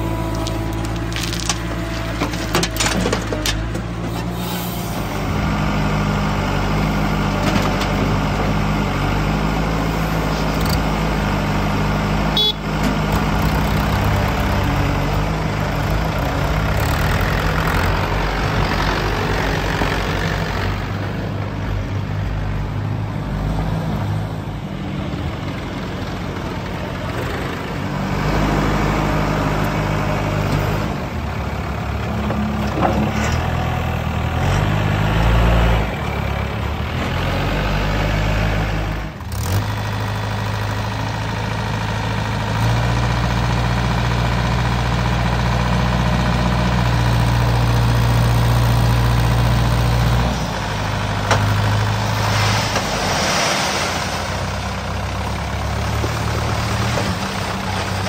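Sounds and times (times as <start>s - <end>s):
tractor diesel engines revving: 0.0s - 58.0s.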